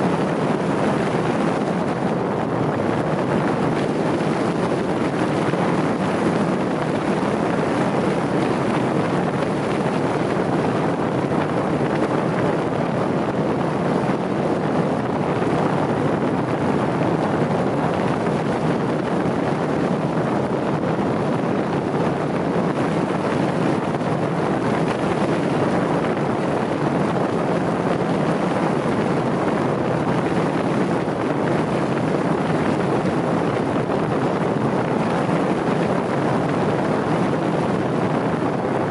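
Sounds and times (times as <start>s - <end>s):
wind and road noise: 0.0s - 38.9s
wind buffeting microphone: 0.0s - 38.9s.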